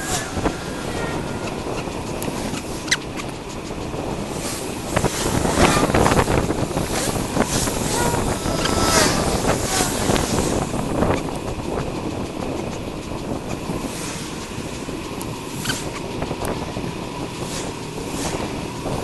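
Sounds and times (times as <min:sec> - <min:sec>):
road noise: 0:00.0 - 0:19.0
sharp clicks and rattles: 0:00.0 - 0:19.0
wind buffeting microphone: 0:00.0 - 0:19.0.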